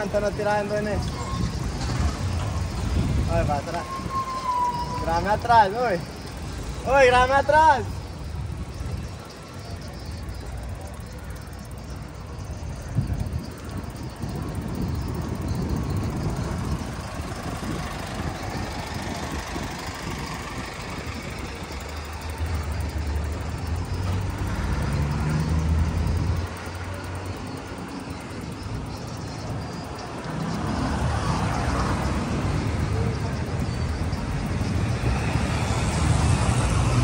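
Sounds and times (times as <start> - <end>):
vehicle engine running: 5.5 - 37.0.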